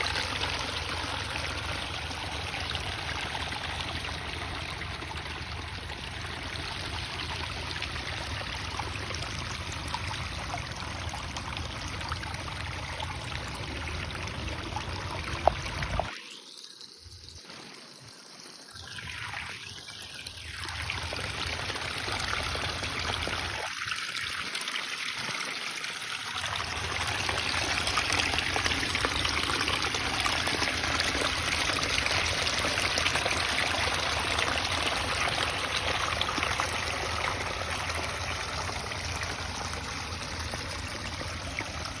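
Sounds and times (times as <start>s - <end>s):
waterfall splashing into pond: 0.0s - 16.4s, 18.6s - 42.0s.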